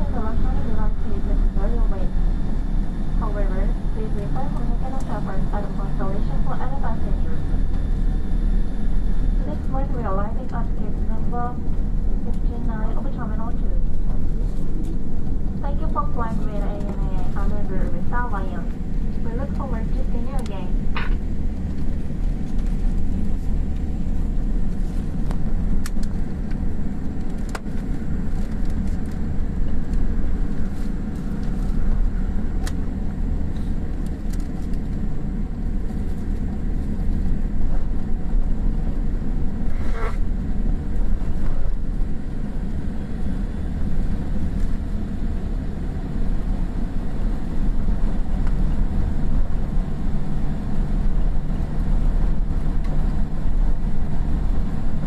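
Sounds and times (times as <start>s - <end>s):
jet engines idling rumble: 0.0s - 55.0s.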